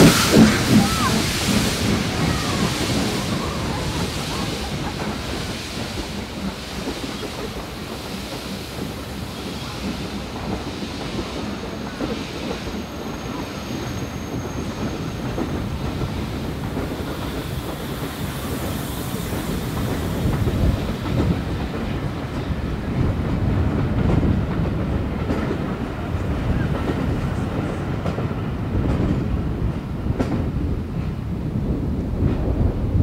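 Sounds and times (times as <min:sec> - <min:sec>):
train wheels clattering over rail joints: 0:00.0 - 0:32.8.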